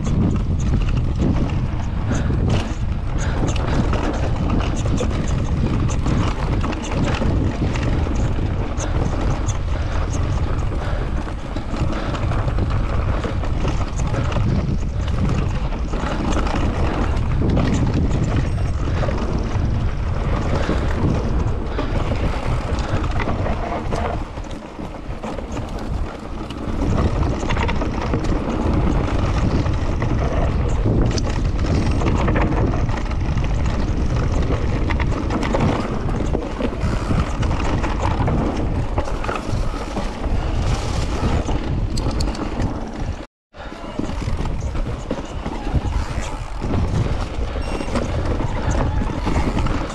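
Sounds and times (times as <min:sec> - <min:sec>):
bike rattling and knocking: 0:00.0 - 0:49.9
tyres on dirt: 0:00.0 - 0:49.9
wind rushing over microphone: 0:00.0 - 0:49.9.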